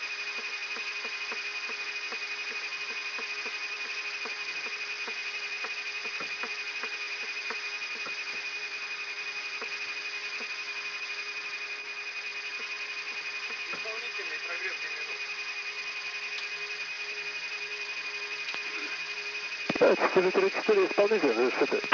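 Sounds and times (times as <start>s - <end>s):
jet engine high whine: 0.0s - 21.9s.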